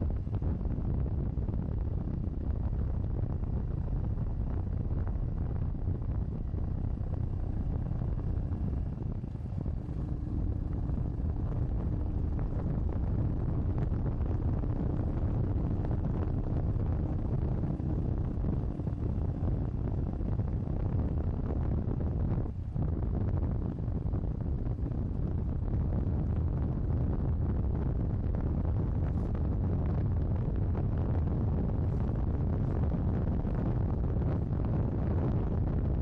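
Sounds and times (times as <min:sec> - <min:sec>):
faint motorcycle engine: 0:00.0 - 0:34.6
wind buffeting microphone: 0:00.0 - 0:36.0.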